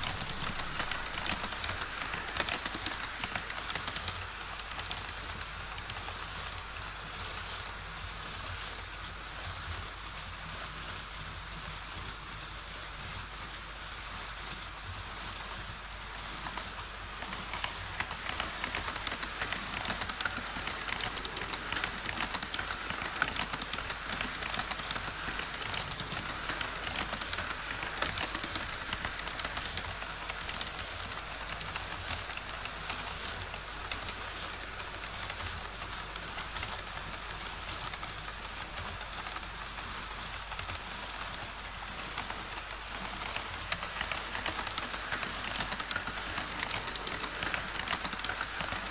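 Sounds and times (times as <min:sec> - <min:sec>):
model train wheels clicking on rails: 0:00.0 - 0:48.9.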